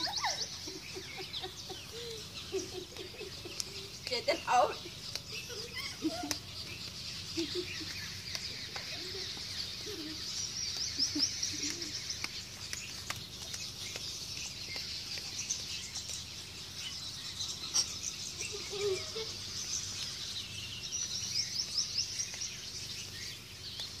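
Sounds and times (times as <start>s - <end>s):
rapid chirp trills: 0.0s - 24.0s
small birds chirping: 0.0s - 24.0s.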